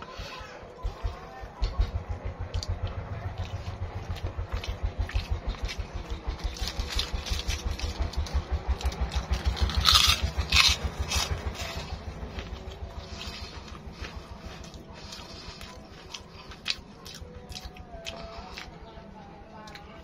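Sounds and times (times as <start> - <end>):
low engine throb: 0.0 - 20.0
chewing: 2.4 - 20.0.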